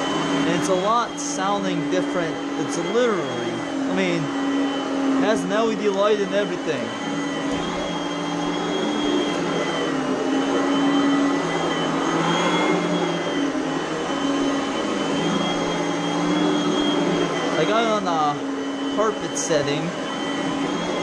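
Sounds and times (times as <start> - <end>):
vacuum cleaner motor whining: 0.0 - 21.0.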